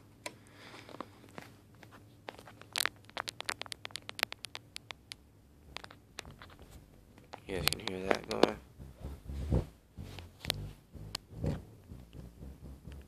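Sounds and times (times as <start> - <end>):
cable plugs clicking and crackling: 0.2 - 9.1, 10.1 - 13.0.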